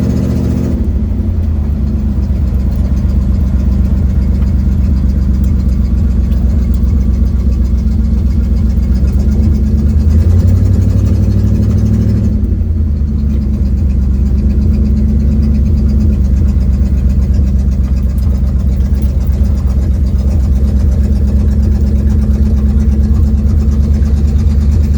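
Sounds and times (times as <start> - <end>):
car engine and leaking exhaust: 0.0 - 24.9.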